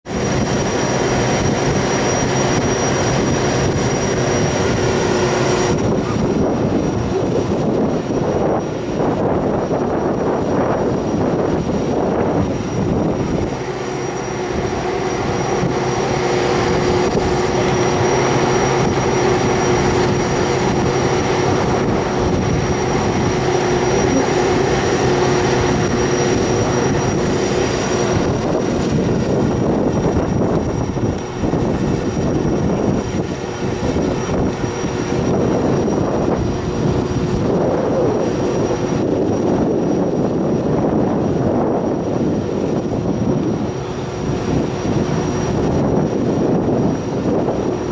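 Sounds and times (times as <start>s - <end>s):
aircraft machinery high whine: 0.0s - 47.9s
low machinery hum: 0.1s - 47.9s.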